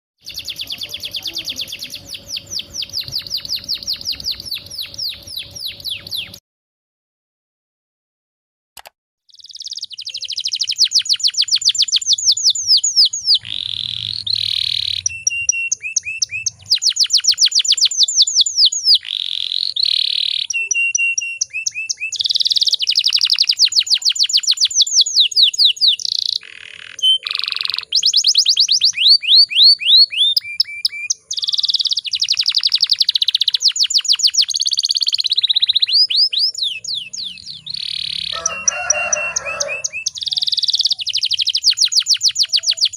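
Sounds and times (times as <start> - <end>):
canary singing rapid trills: 0.2 - 6.4, 9.3 - 42.9.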